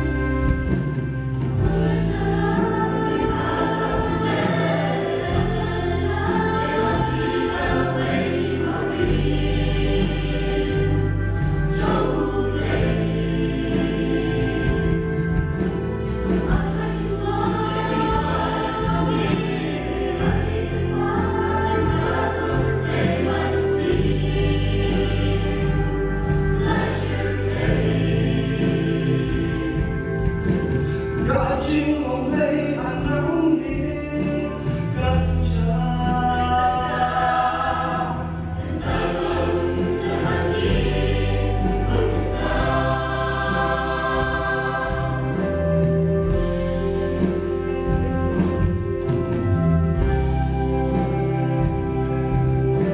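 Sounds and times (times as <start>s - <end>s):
choir singing: 0.0s - 52.9s
steady bass accompaniment: 0.0s - 52.9s.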